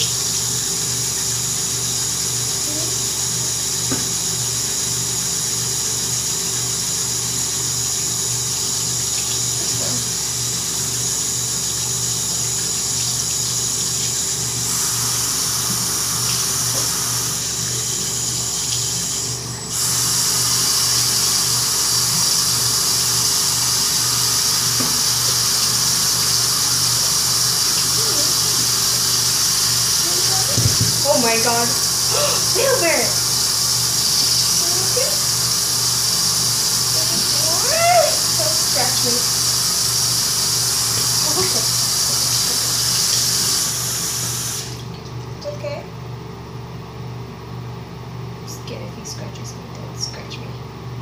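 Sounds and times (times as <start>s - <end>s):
tap water running into sink: 0.0s - 45.3s.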